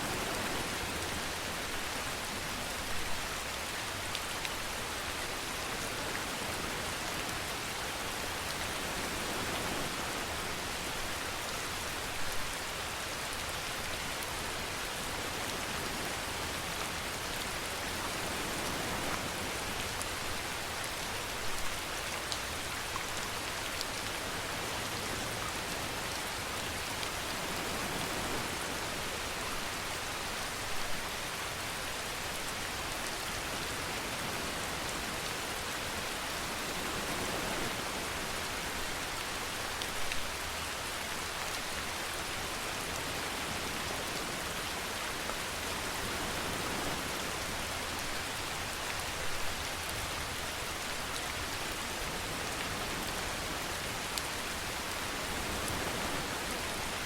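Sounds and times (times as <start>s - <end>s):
rain hissing on a surface: 0.0s - 57.0s.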